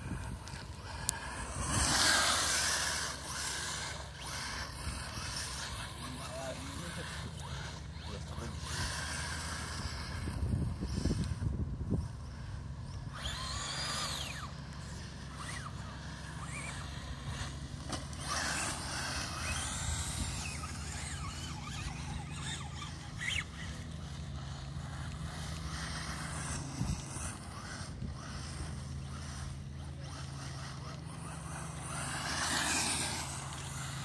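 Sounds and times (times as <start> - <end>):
steady low hum: 0.0 - 34.0
toy car motor whining: 0.0 - 34.0.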